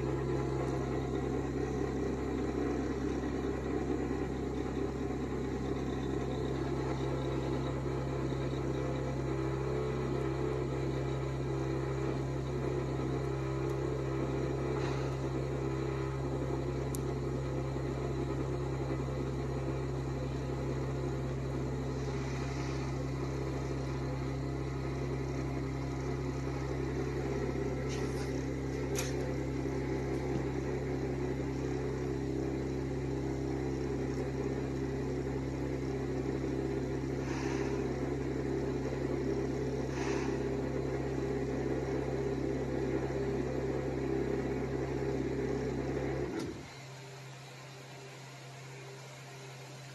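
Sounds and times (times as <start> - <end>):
hot-wire foam cutter humming: 0.0 - 47.3.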